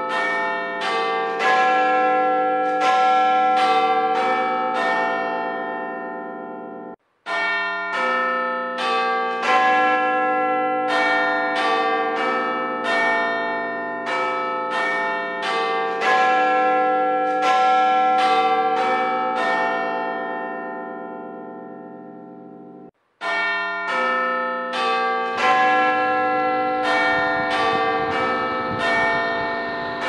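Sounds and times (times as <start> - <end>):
bells ringing notes: 0.0 - 30.0.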